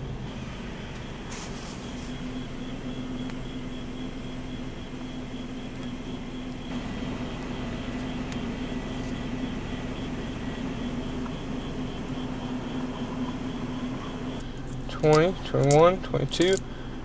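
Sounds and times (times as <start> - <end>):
faint high whine: 0.0 - 17.0
mechanical hum: 0.0 - 17.0.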